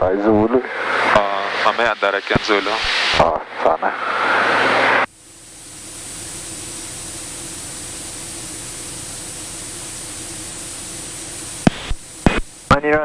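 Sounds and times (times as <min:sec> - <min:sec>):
faint steady hum: 0:00.0 - 0:13.0
radio static hiss: 0:00.0 - 0:13.0.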